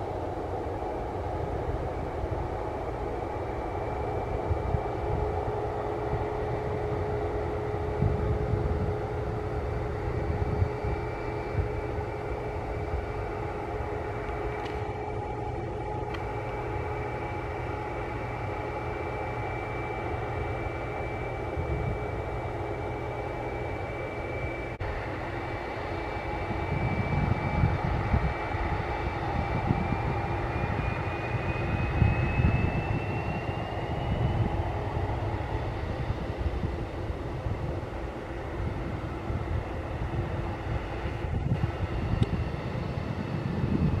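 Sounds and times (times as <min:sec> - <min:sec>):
jet engines whining: 0:00.0 - 0:44.0
low engine rumble: 0:00.0 - 0:44.0.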